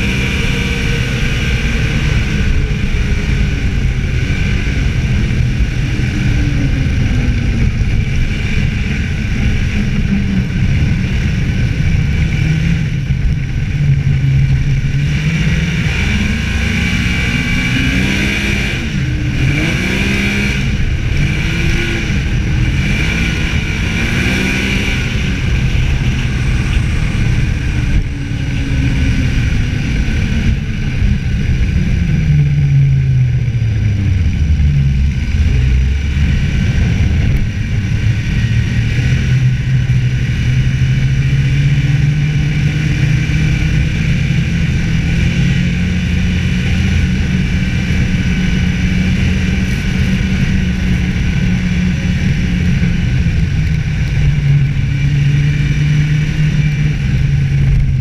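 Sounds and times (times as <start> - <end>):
snowmobile engine running: 0.0 - 58.0
wind: 0.0 - 58.0.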